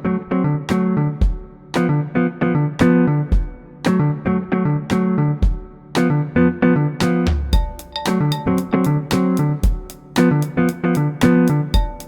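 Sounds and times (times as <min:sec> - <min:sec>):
guitar and bass music with beat: 0:00.0 - 0:12.0.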